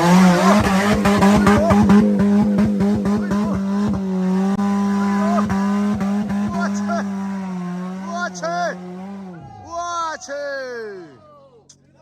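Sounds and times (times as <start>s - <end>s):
car engine droning at high revs: 0.0s - 9.9s.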